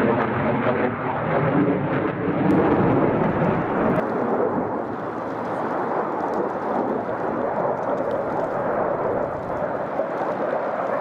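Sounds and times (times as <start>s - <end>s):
fighter jet engine rumble: 0.0s - 11.0s.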